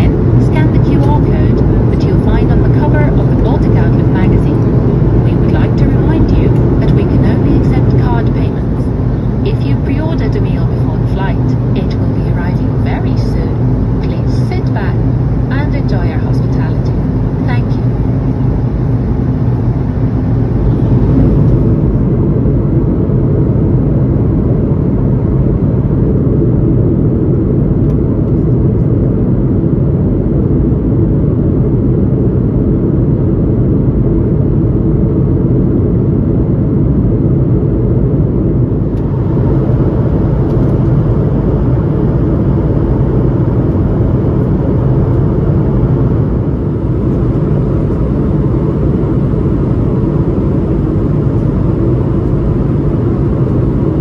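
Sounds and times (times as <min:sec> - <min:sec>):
aircraft cabin rumble: 0:00.0 - 0:54.0.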